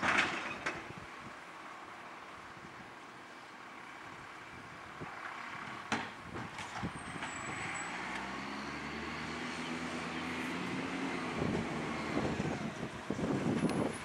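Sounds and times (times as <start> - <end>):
garbage truck diesel engine: 0.0 - 14.0.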